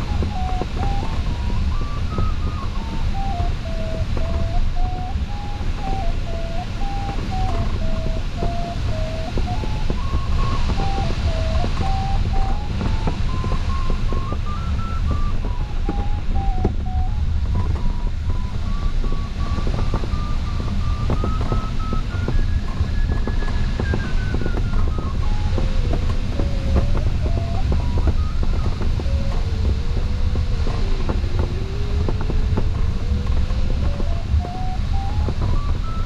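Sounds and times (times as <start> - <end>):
rush of cockpit airflow: 0.0 - 36.0
variometer tone stepping in pitch: 0.0 - 36.0.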